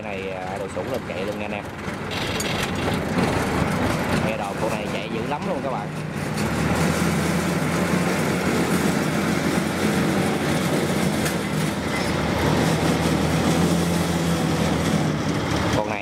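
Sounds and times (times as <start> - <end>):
clatter of threshing machinery: 0.0 - 16.0
combine harvester engine drone: 0.0 - 16.0.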